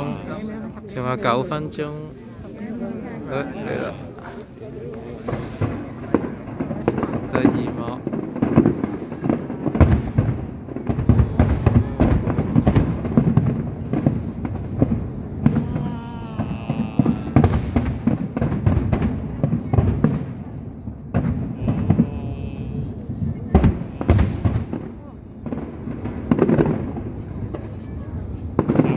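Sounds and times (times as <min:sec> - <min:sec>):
fireworks bangs and crackling: 0:00.0 - 0:28.9.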